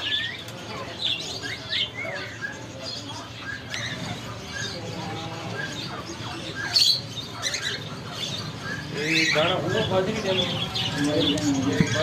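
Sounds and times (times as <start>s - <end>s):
parrots chirping: 0.0s - 12.0s.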